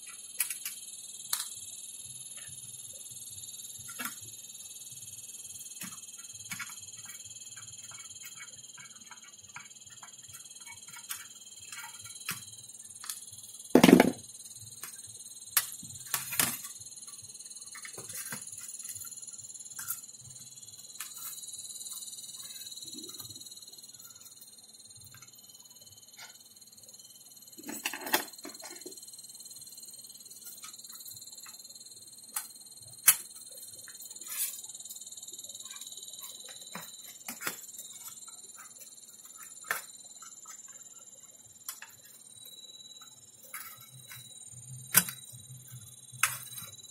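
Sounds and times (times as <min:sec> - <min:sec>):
steady high-pitched trill: 0:00.0 - 0:46.9.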